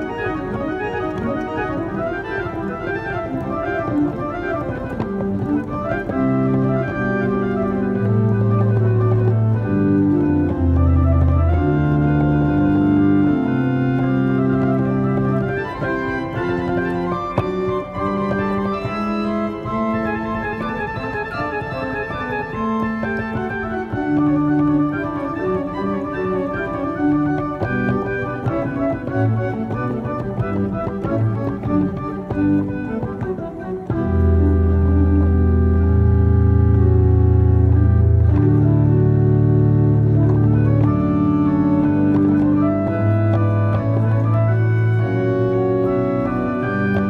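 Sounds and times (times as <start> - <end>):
pipe organ playing: 0.0 - 47.0.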